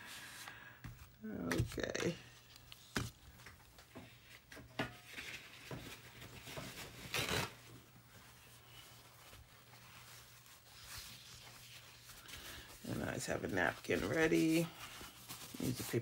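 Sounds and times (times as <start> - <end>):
paper towel rustling: 0.0 - 16.0.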